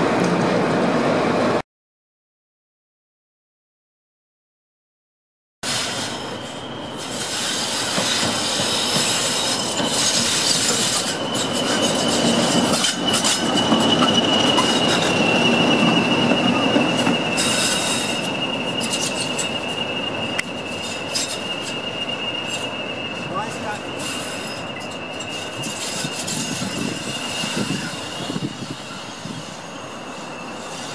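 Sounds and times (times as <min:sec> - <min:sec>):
diesel locomotive engine rumbling: 0:05.6 - 0:30.9.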